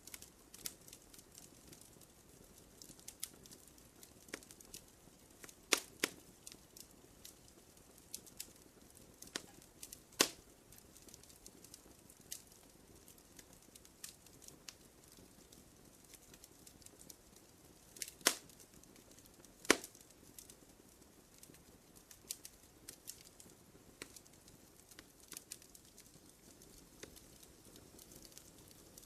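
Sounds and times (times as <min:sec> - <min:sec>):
campfire crackling and popping: 0:00.0 - 0:29.0
faint steady hiss: 0:00.0 - 0:29.0.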